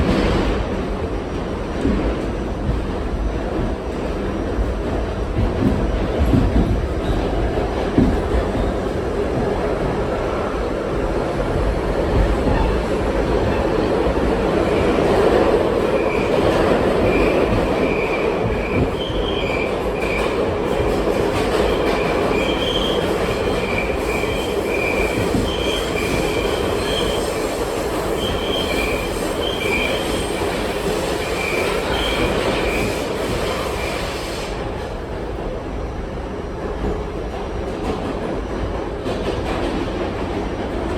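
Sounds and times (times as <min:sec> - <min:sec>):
subway car rumbling on tracks: 0:00.0 - 0:40.9.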